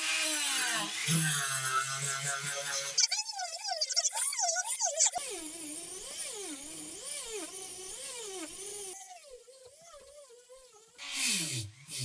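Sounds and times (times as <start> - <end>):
small electric motor tool whining: 0.0 - 3.8, 4.7 - 12.0.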